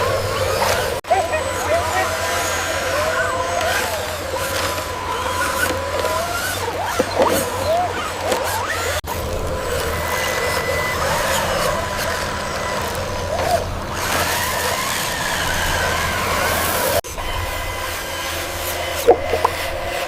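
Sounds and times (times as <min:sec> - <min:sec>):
small electric motors whining: 0:00.0 - 0:20.0.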